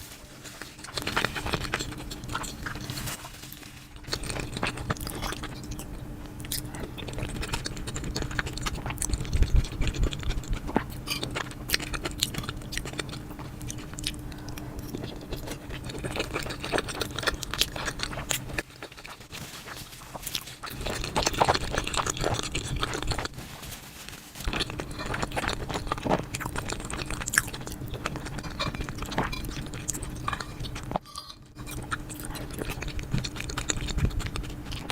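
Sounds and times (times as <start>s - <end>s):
person chewing and crunching: 0.0s - 23.7s, 24.4s - 34.9s.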